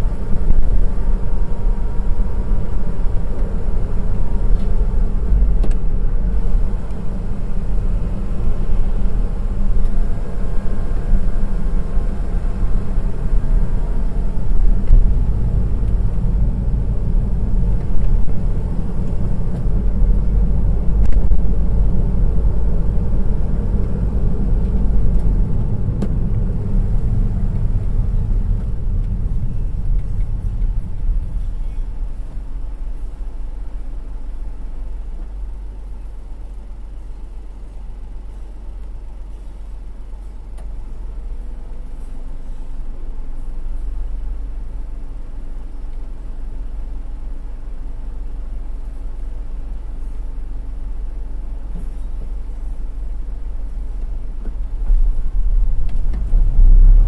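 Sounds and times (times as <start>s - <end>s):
car engine driving: 0.0s - 57.0s
road noise: 0.0s - 57.0s.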